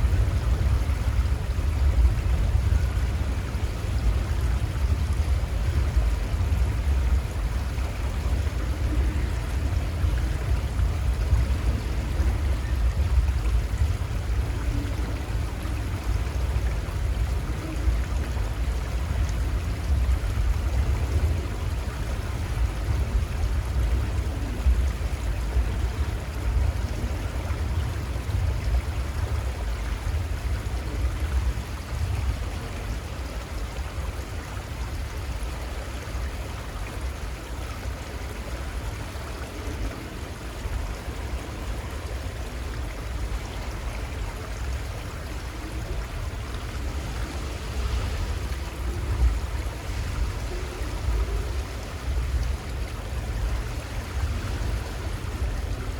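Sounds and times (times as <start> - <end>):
low water rumble: 0.0 - 55.9
river water rushing: 0.0 - 55.9.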